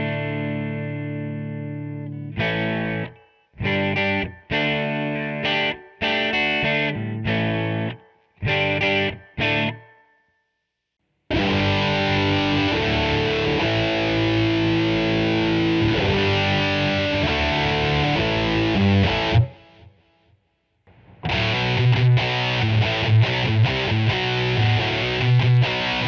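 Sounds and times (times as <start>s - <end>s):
distorted electric guitar chords: 0.0s - 10.0s, 11.3s - 20.1s, 20.9s - 26.0s.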